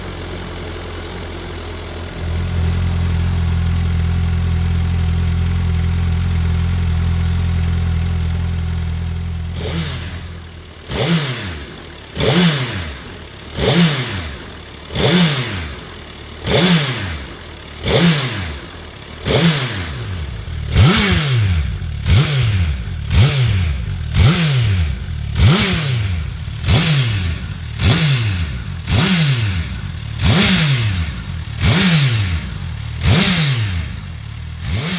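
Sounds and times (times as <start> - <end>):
engine revving: 0.0 - 34.9
motorcycle engine idling: 0.0 - 34.9.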